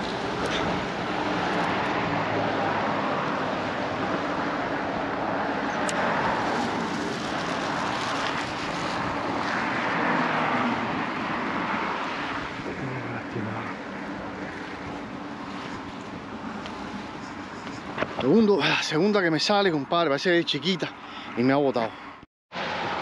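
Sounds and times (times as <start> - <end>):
cars driving past: 0.0 - 23.0.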